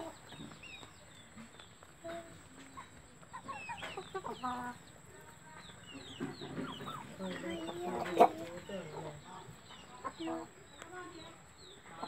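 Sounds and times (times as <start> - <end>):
chickens clucking softly: 0.0 - 12.0.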